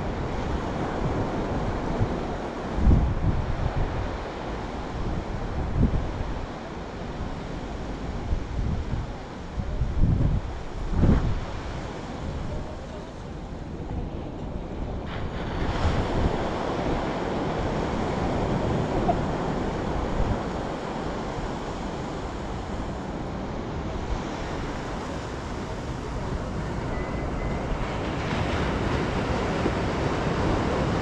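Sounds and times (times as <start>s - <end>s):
surf breaking on a sandy beach: 0.0s - 31.0s
wind buffeting the microphone: 0.0s - 31.0s.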